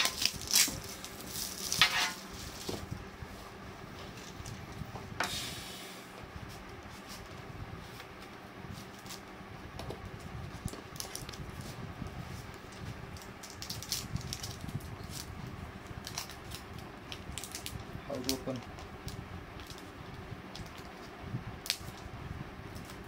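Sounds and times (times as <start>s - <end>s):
fan-like hum: 0.0s - 23.0s.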